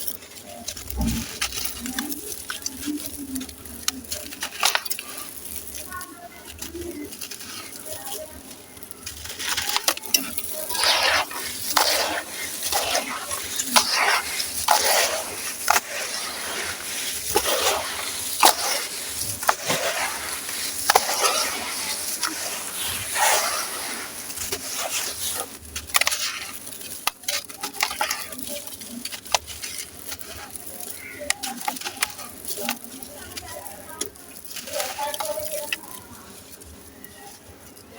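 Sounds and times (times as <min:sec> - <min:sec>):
sand-cement chunks crumbling: 0:00.0 - 0:37.9.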